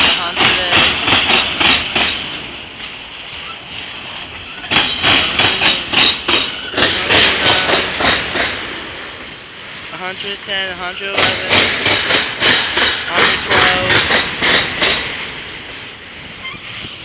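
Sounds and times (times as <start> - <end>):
train wheels clacking over joints: 0.0 - 9.4, 10.9 - 17.0.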